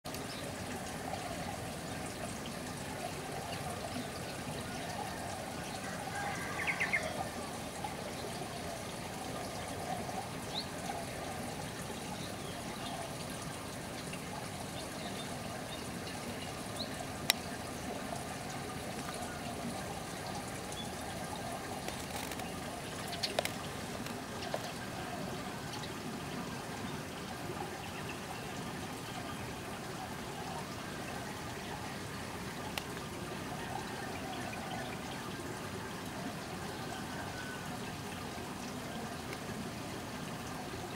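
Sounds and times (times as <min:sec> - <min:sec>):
running water trickling: 0:00.1 - 0:40.9.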